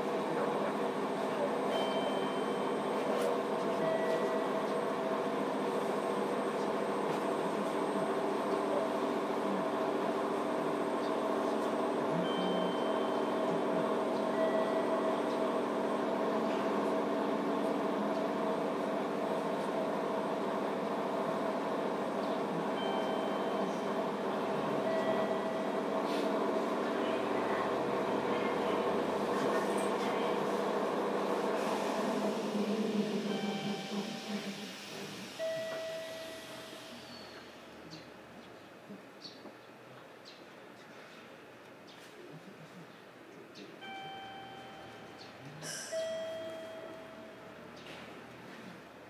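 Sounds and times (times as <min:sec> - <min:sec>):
train interior hum: 0:00.0 - 0:42.6.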